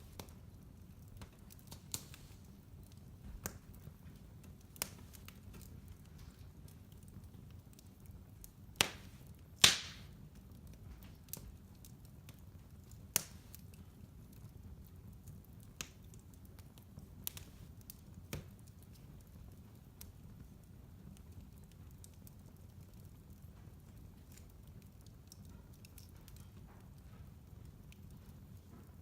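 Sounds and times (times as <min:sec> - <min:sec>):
fire crackling: 0:00.0 - 0:29.0
fire popping: 0:00.0 - 0:29.0.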